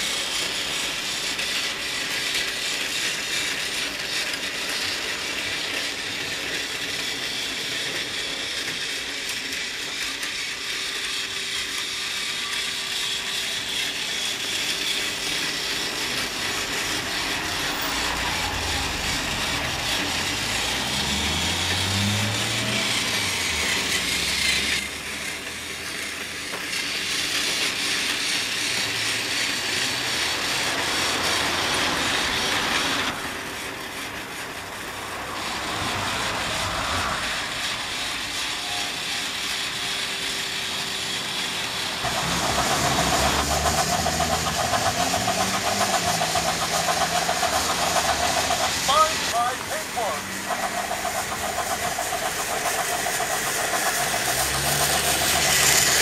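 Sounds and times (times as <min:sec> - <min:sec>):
toy train motor whirring: 0:00.0 - 0:56.0.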